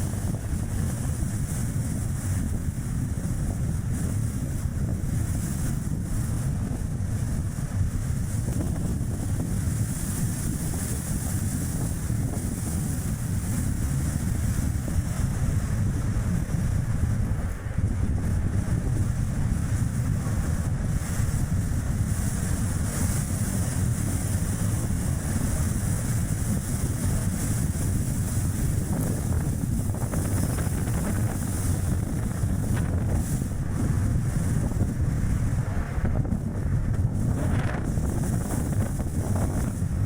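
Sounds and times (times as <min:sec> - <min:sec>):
car road and tyre noise: 0:00.0 - 0:40.0
wind buffeting microphone: 0:00.0 - 0:40.0.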